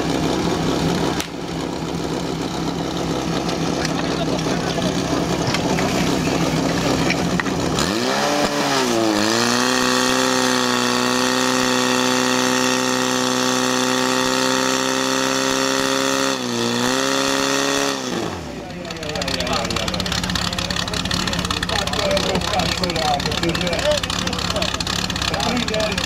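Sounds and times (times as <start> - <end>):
fire pump engine revving: 0.0 - 26.0.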